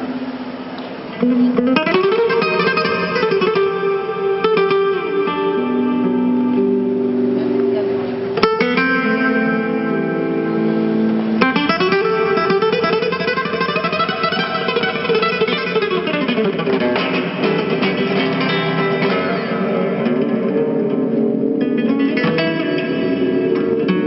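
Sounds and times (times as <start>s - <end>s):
flamenco acoustic guitar: 0.0s - 24.0s.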